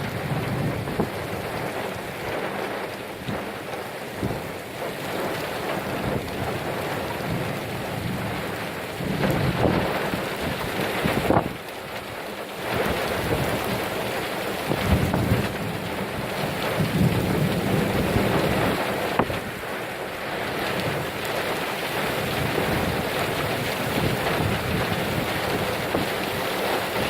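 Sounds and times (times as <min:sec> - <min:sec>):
heavy rain pouring: 0:00.0 - 0:27.0.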